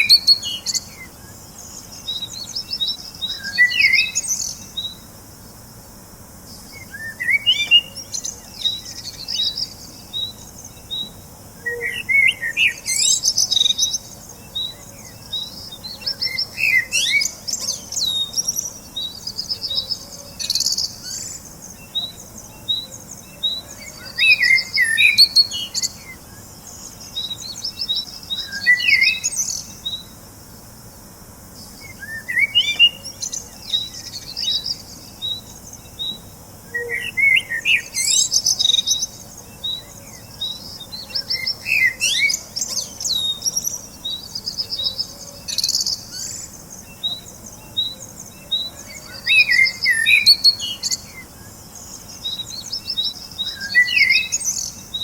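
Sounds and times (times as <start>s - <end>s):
bird warbling song: 0.0s - 5.7s, 6.5s - 30.2s, 31.5s - 55.0s.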